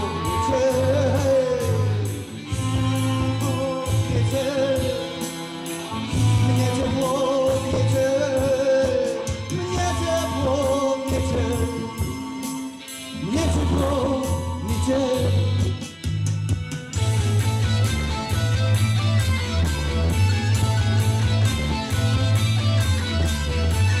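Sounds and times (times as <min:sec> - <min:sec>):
bass line: 0:00.0 - 0:24.0
drums with cymbal beat: 0:00.0 - 0:24.0
wavering lead melody: 0:00.0 - 0:24.0.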